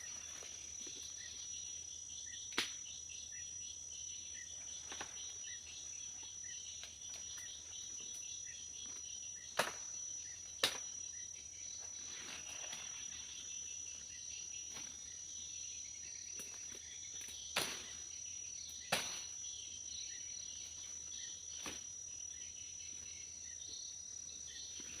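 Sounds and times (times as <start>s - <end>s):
insects chorus whining: 0.0s - 25.0s.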